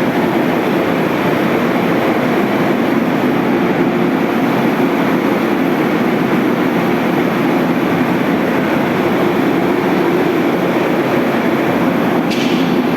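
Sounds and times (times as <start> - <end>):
vacuum pump droning: 0.0 - 12.9.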